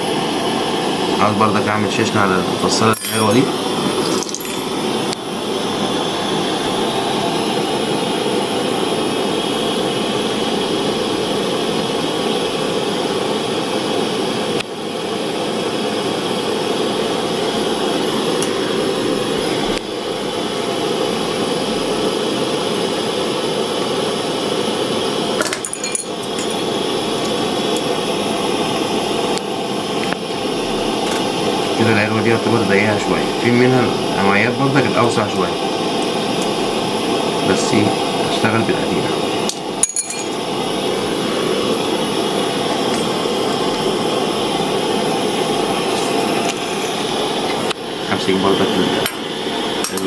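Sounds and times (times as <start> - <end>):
torch flame hissing: 0.0 - 50.0.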